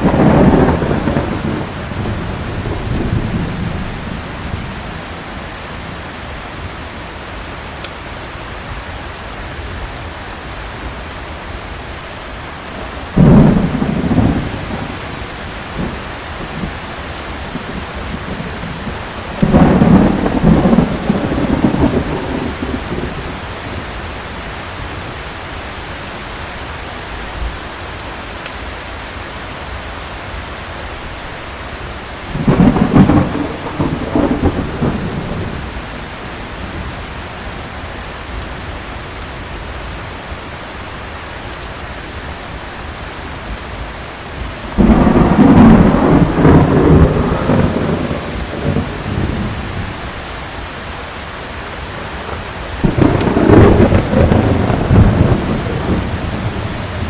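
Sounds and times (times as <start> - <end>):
thunder rumbling: 0.0 - 6.8, 12.4 - 27.6, 32.0 - 41.0, 41.8 - 57.0
heavy rain: 0.0 - 57.0.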